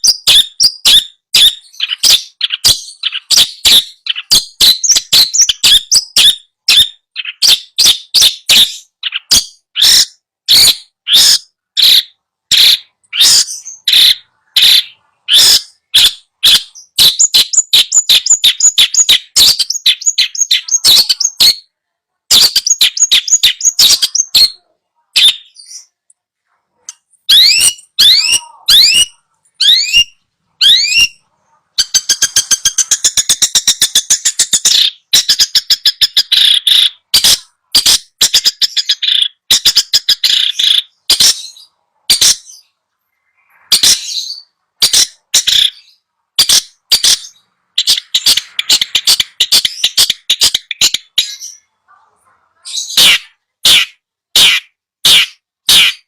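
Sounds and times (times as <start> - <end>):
bird harsh repeated calls: 0.0 - 56.0.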